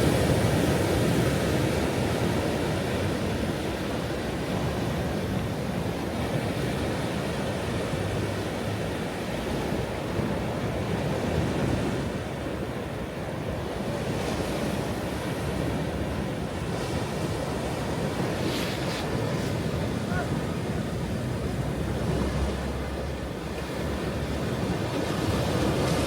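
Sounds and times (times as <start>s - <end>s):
waves breaking on shore: 0.0s - 26.0s.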